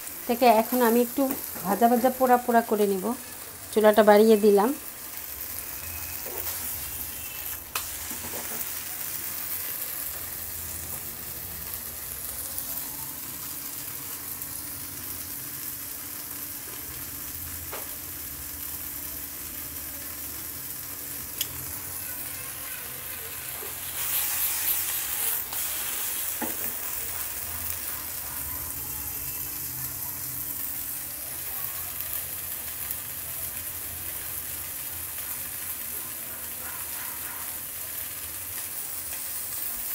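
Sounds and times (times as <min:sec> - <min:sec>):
food sizzling in a wok: 0:00.0 - 0:39.9.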